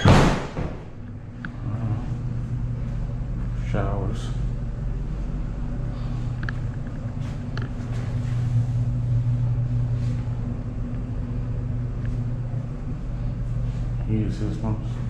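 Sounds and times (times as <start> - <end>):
ventilation unit humming: 0.0 - 15.0.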